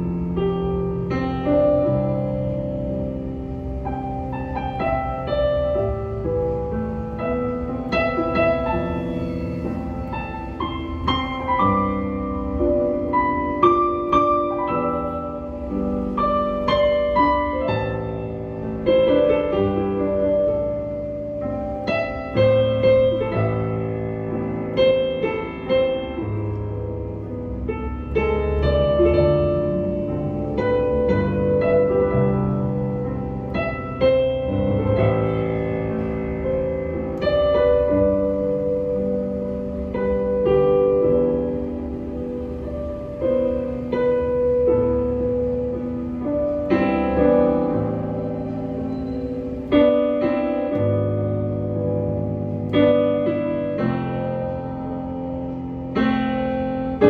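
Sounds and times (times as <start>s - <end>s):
digital piano piece: 0.0s - 57.0s.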